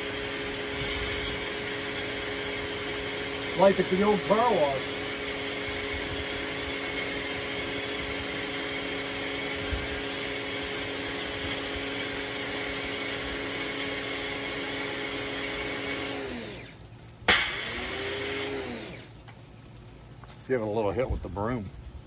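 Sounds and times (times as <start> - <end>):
pressure washer motor humming: 0.0 - 19.3.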